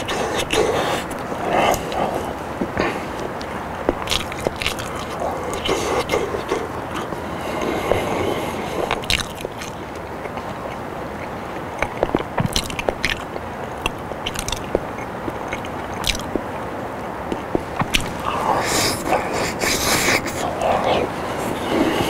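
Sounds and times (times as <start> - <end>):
man chewing food: 0.0 - 22.0
steady hiss: 0.0 - 22.0.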